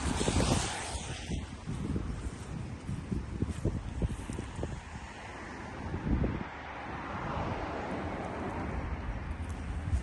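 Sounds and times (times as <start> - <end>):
broad rushing noise: 0.0 - 10.0
wind buffeting microphone: 0.0 - 10.0.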